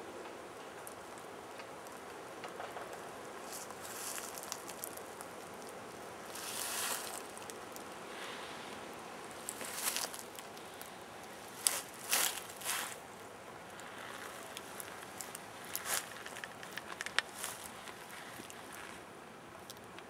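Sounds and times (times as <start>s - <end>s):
faint crackles: 0.0s - 20.0s
steady outdoor hiss: 0.0s - 20.0s.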